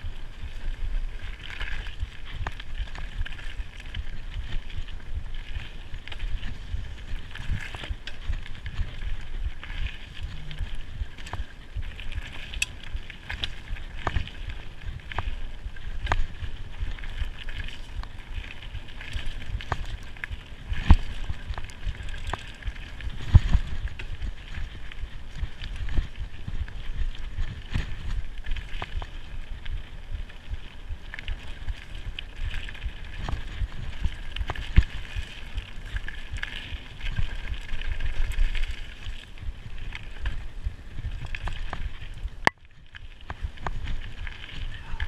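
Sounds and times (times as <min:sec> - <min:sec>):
bike rattling over roots: 0:00.0 - 0:45.0
bike tyres rumbling on dirt: 0:00.0 - 0:45.0.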